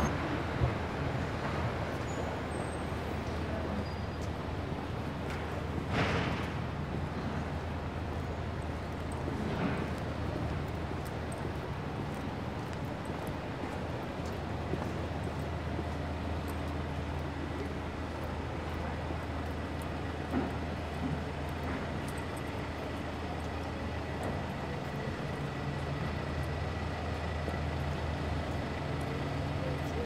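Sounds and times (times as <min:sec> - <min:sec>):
street traffic: 0:00.0 - 0:30.0
vehicle engine humming: 0:00.0 - 0:30.0.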